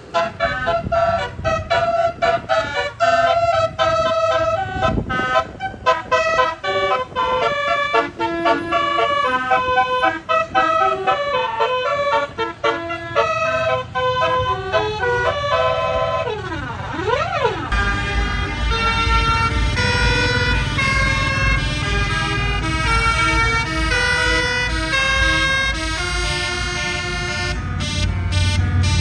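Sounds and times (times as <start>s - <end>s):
musical bus horn: 0.0s - 29.0s.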